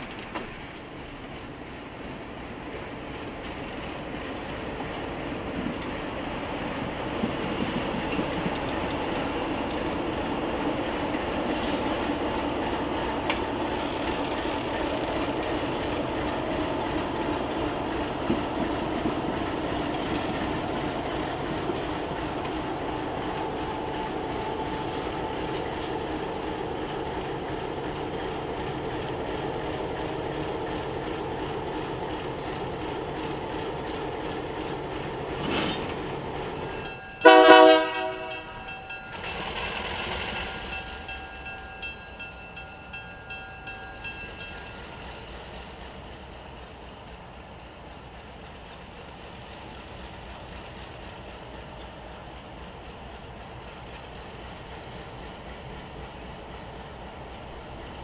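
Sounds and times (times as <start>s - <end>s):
diesel locomotive engines rumbling: 0.0s - 58.0s.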